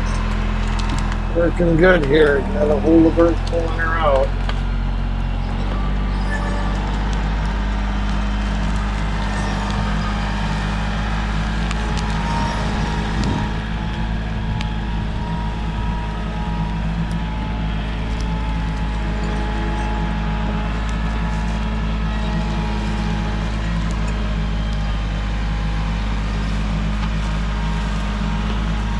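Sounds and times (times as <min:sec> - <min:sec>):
tractor engine running under load: 0:00.0 - 0:28.9.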